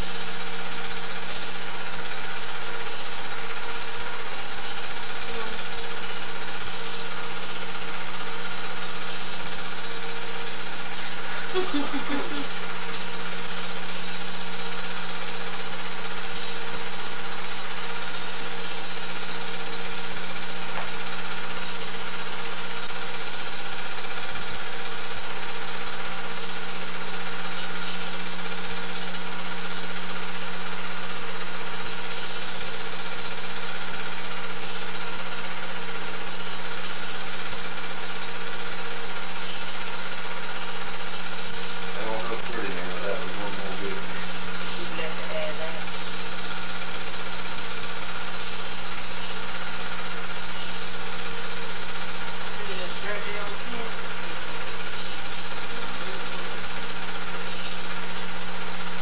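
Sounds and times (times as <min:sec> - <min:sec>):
film projector whirring: 0:00.0 - 0:59.0.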